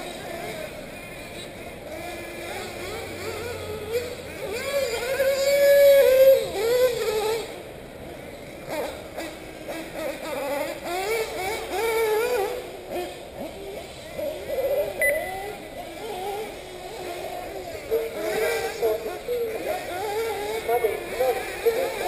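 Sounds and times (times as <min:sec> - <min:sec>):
model car engines whining: 0:00.0 - 0:22.0.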